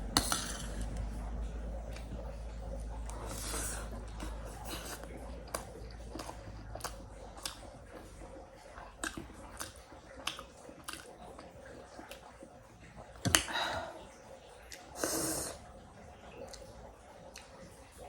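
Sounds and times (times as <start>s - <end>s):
wet chewing mouth sounds: 0.1s - 18.0s.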